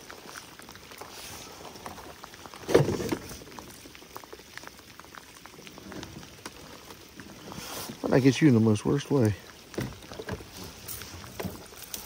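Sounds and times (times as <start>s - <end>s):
rain pattering on water and plastic: 0.0s - 12.0s.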